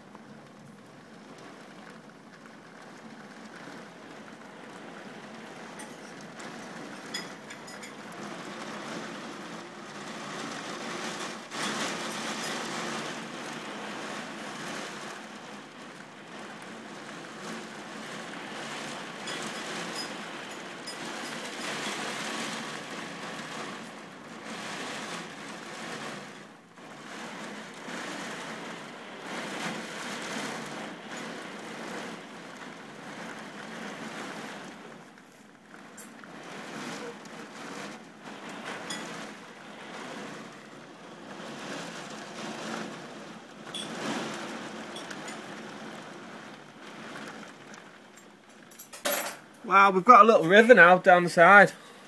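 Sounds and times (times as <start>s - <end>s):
heavy rain pouring: 0.0s - 52.0s.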